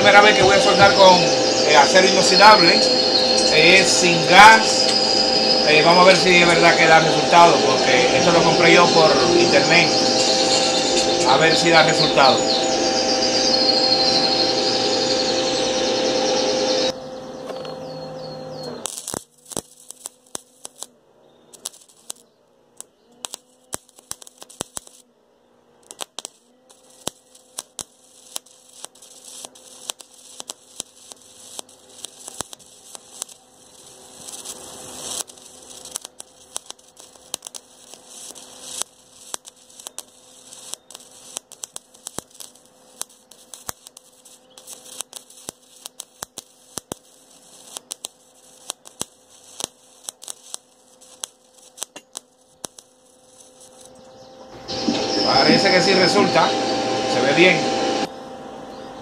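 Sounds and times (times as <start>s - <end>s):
welding arc crackling and popping: 0.0s - 17.8s, 18.5s - 25.1s, 25.8s - 58.2s
faint steady hum: 0.0s - 59.0s.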